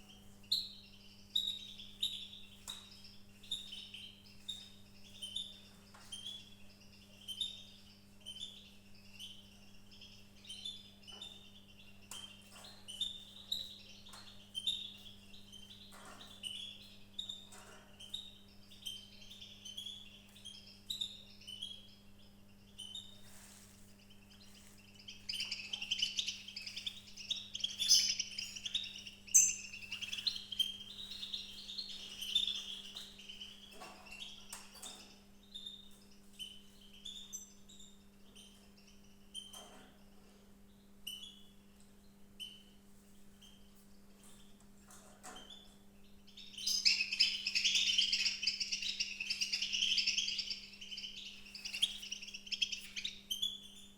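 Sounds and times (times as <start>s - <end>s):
low electrical hum: 0.0s - 53.9s
small birds chirping: 0.0s - 53.9s.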